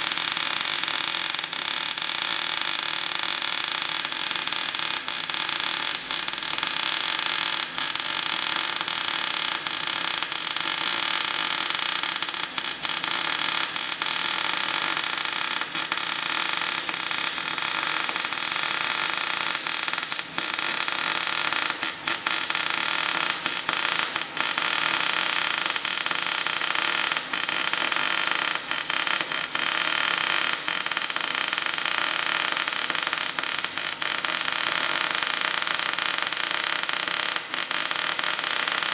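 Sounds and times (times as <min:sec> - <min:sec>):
arc welding crackling hiss: 0:03.6 - 0:38.9.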